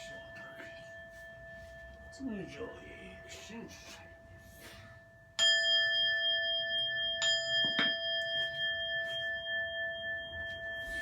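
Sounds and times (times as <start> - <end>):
bowl bell ringing: 0.0 - 11.0.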